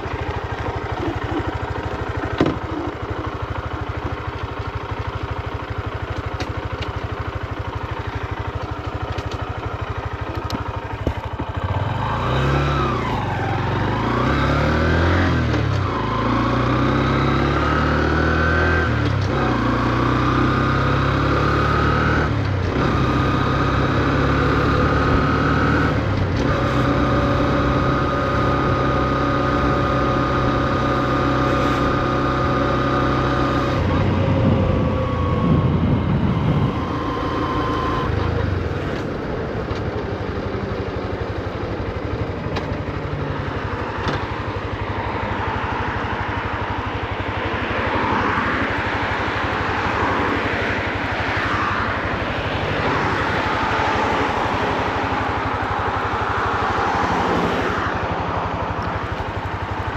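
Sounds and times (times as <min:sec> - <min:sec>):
motorcycle engine idling and accelerating: 0:00.0 - 0:59.9.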